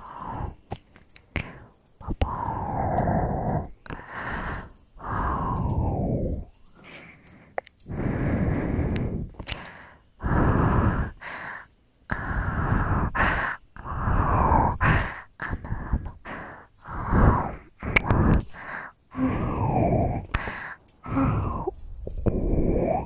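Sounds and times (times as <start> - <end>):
woman breathing and sighing: 0.0 - 23.0.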